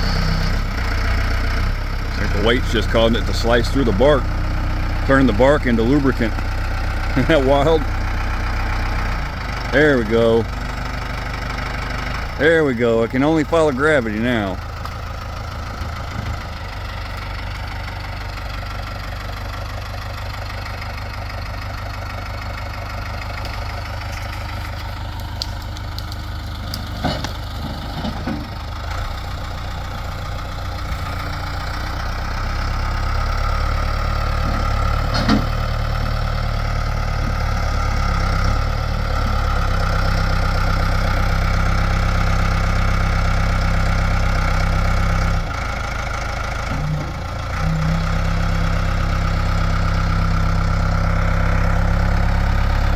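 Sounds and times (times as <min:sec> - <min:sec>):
backhoe engine running: 0:00.0 - 0:52.9.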